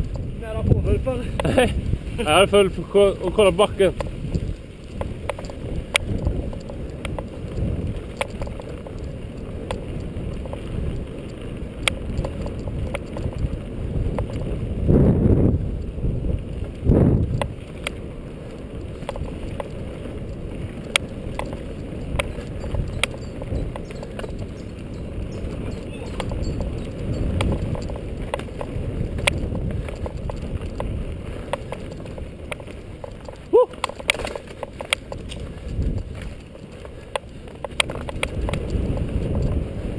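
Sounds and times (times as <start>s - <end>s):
bike clicks and rattles: 0.0s - 39.9s
bike rumbling over dirt trail: 0.0s - 39.9s.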